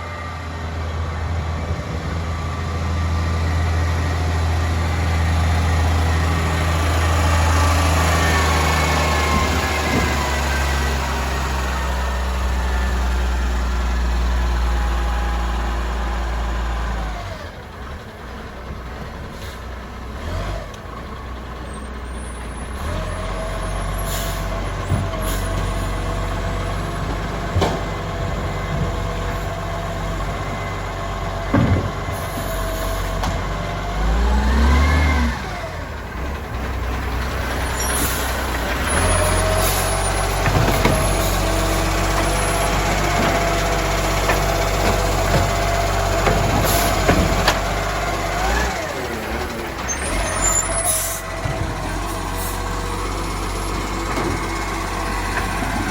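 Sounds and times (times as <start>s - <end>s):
garbage truck diesel engine: 0.0s - 55.9s.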